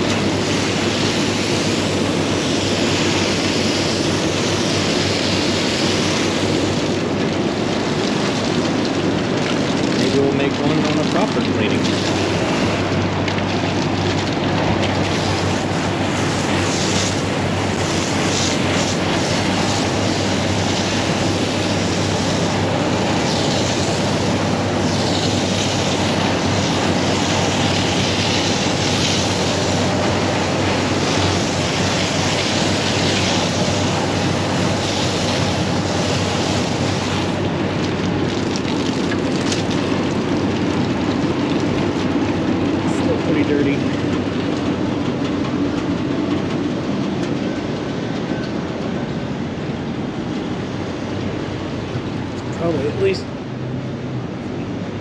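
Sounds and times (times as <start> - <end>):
hose spraying and splashing water: 0.0 - 46.2.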